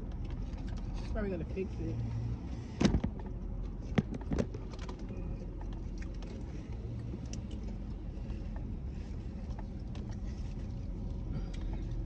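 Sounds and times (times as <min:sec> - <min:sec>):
low hum inside a car: 0:00.0 - 0:12.0.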